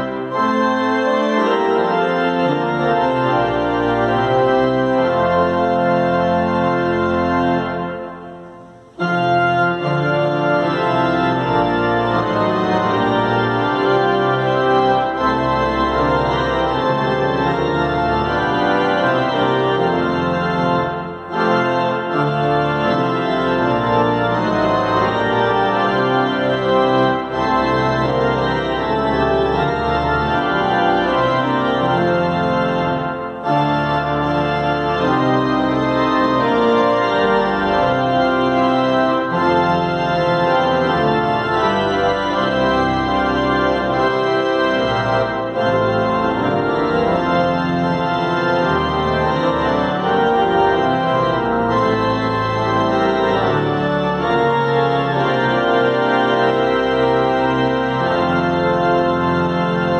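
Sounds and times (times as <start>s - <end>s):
pipe organ playing a hymn: 0.0s - 59.9s.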